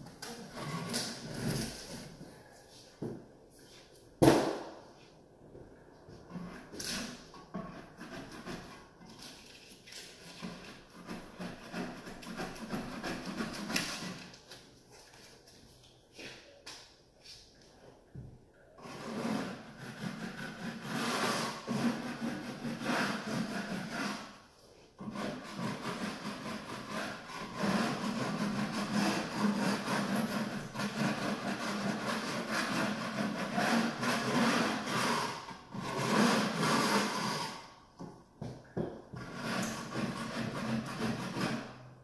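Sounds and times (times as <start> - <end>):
drywall knife scraping wall: 0.0 - 2.5, 6.1 - 15.4, 18.8 - 42.0.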